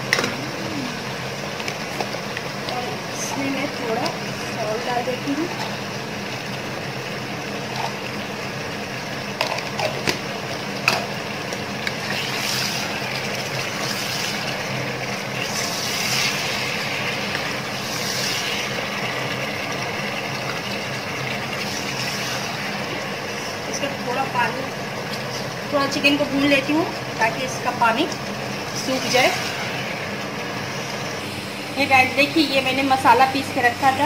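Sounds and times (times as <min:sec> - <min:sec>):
chicken sizzling in oil: 0:00.0 - 0:34.0
cooktop humming: 0:00.0 - 0:34.0.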